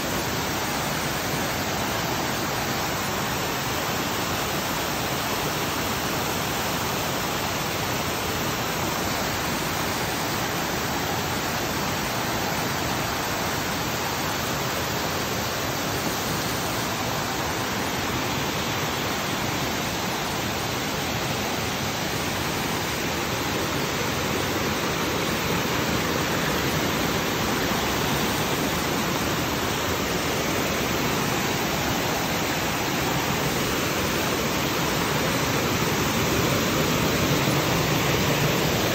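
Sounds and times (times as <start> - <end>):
small waterfall: 0.0 - 38.9
stream rushing over boulders: 0.0 - 38.9.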